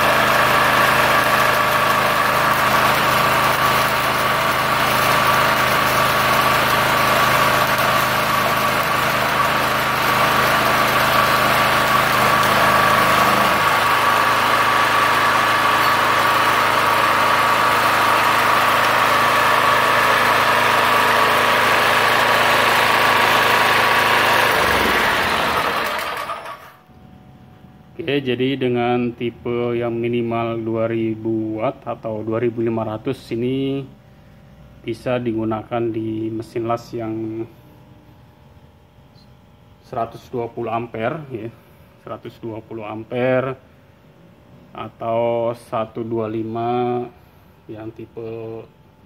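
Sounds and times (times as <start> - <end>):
petrol generator running: 0.0 - 49.0.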